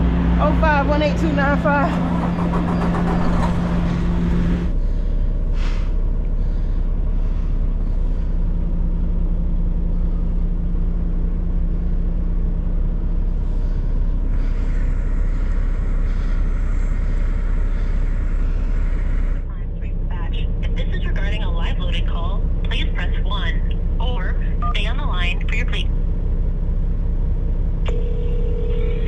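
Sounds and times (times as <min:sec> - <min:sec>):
truck diesel engine idling: 0:00.0 - 0:29.0.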